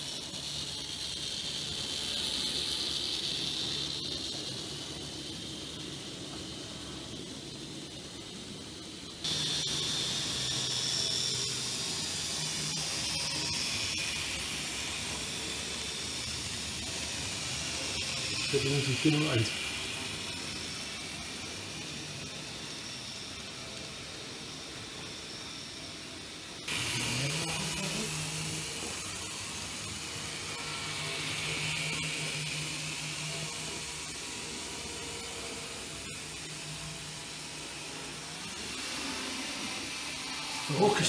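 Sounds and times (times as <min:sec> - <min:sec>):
model train motor hiss: 0:00.0 - 0:41.0.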